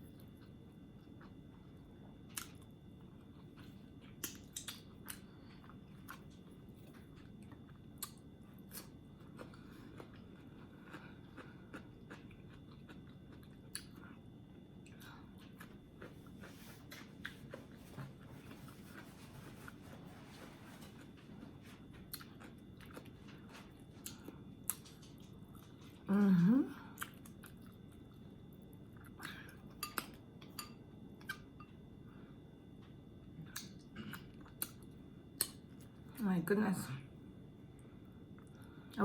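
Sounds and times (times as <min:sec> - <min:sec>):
person chewing food: 0:00.0 - 0:20.1, 0:20.8 - 0:26.1, 0:27.0 - 0:31.7, 0:32.7 - 0:36.0
faint steady hum: 0:00.0 - 0:39.0.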